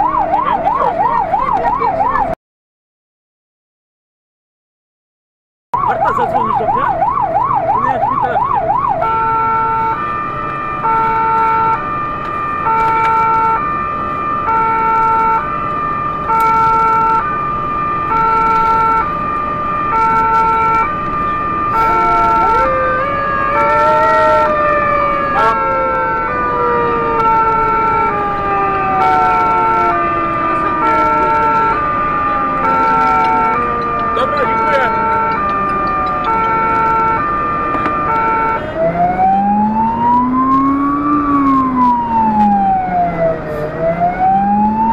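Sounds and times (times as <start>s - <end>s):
fire engine siren two-tone: 0.0s - 2.4s, 5.8s - 44.9s
second siren winding down: 0.0s - 2.4s, 5.8s - 44.9s.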